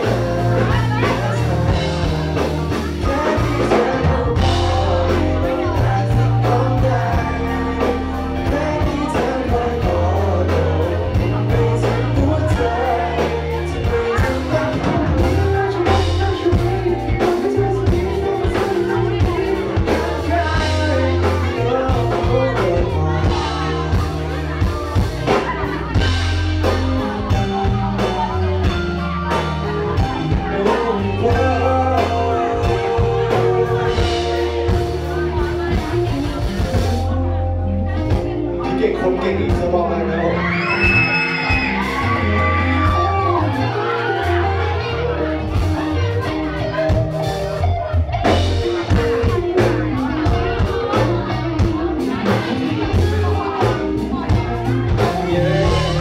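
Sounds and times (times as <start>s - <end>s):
live band with lead singer: 0.0s - 56.0s.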